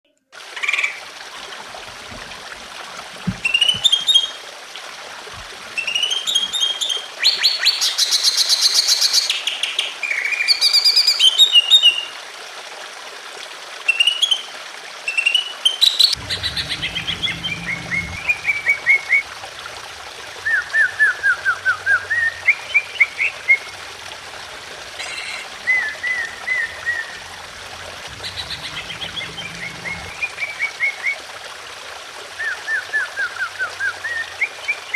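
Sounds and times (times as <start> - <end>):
water trickling: 0.4 - 9.2, 10.6 - 34.9.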